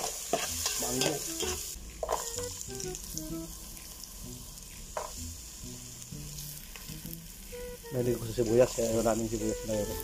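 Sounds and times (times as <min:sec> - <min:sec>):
garlic sizzling in oil: 0:00.0 - 0:10.0.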